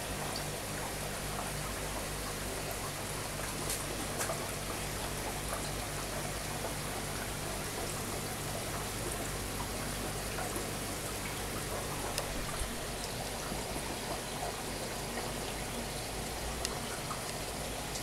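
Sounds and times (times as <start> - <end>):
water bubbling and trickling: 0.1 - 18.0.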